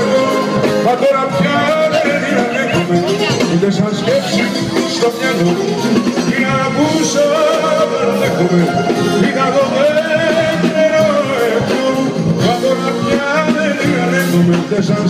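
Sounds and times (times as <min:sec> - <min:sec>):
band accompaniment: 0:00.0 - 0:15.0
man singing into a microphone: 0:00.0 - 0:15.0.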